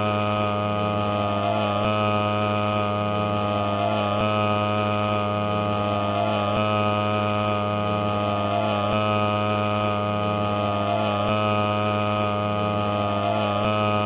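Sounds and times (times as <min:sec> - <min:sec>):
loud droning hum: 0:00.0 - 0:14.0.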